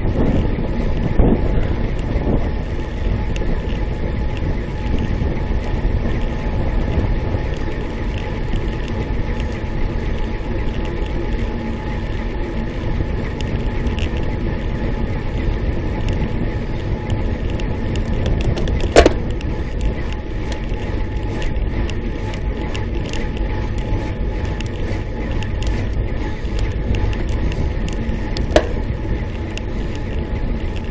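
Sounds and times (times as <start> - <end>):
tyre noise on asphalt: 0.0 - 30.9
wind rushing over microphone: 0.0 - 30.9.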